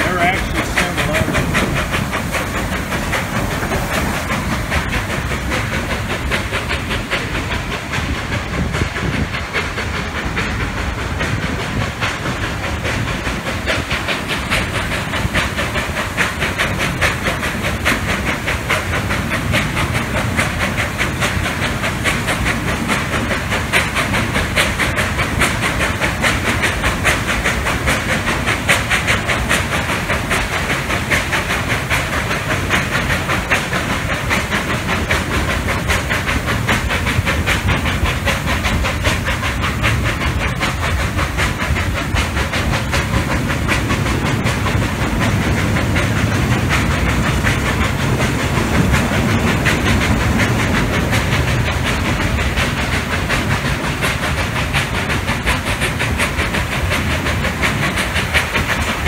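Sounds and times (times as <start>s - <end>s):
locomotive exhaust beats: 0.0s - 59.0s
steam locomotive hiss: 0.0s - 59.0s
wheels clattering on rails: 0.0s - 59.0s.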